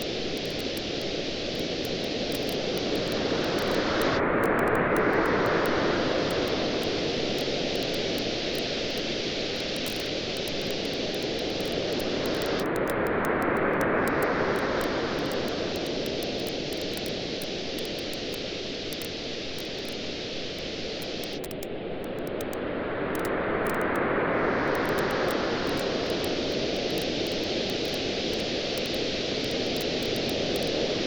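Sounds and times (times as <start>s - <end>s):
wood fire crackling and popping: 0.0s - 5.7s, 6.3s - 20.1s, 21.0s - 22.6s, 24.7s - 30.8s.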